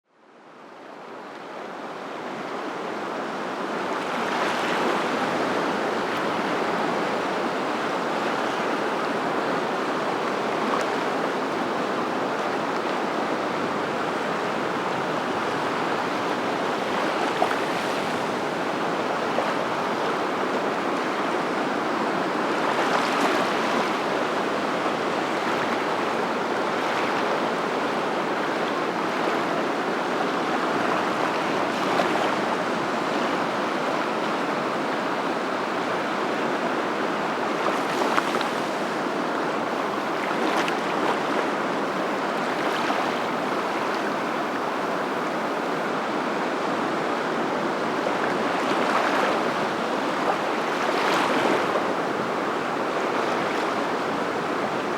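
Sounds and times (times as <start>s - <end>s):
rushing water: 0.4s - 54.9s.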